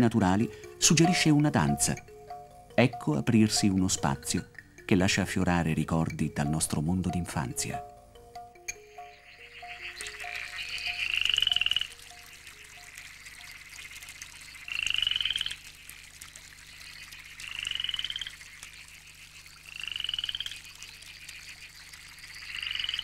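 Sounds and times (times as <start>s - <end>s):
frog calling in pulsed trills: 0.0s - 23.0s.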